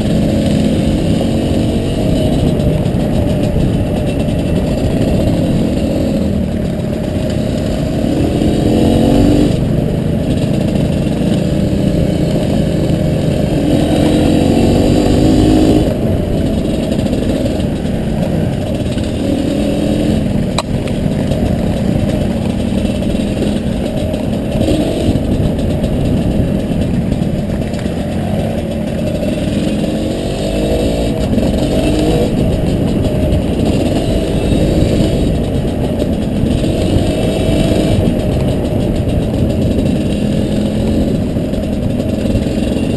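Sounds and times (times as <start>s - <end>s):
muffled dirt bike engine revving: 0.0s - 42.9s.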